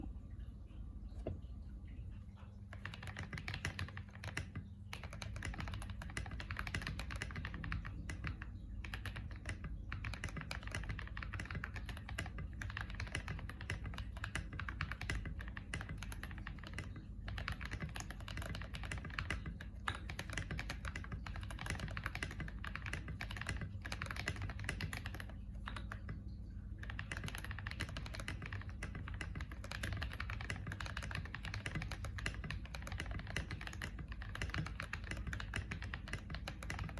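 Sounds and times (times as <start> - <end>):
fast mechanical keyboard typing: 2.6 - 36.9.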